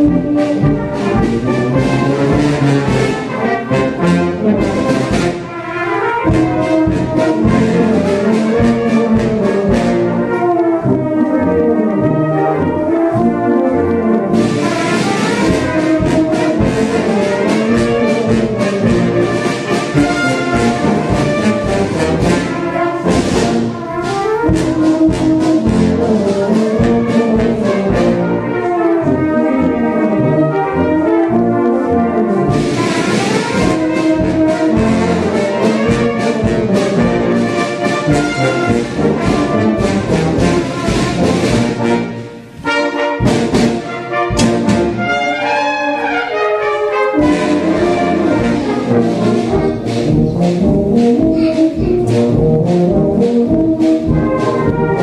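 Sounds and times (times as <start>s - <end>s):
brass music: 0.0s - 55.0s.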